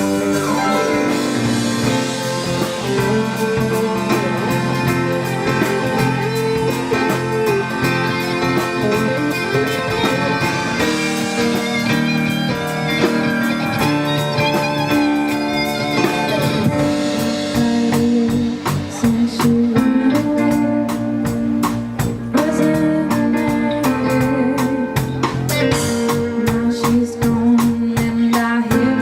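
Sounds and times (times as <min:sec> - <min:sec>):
drum kit: 0:00.0 - 0:29.0
electric guitar playing: 0:00.0 - 0:29.0.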